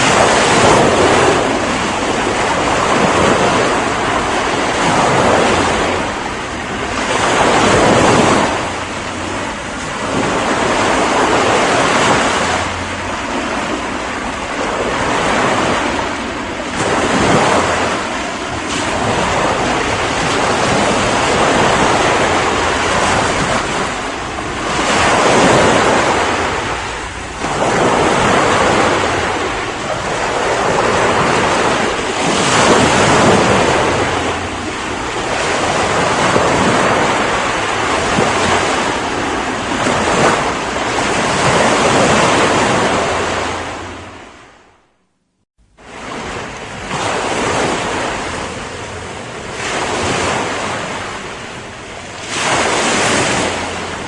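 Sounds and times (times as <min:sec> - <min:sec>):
ocean waves breaking on shore: 0:00.0 - 0:45.0, 0:45.6 - 0:54.0.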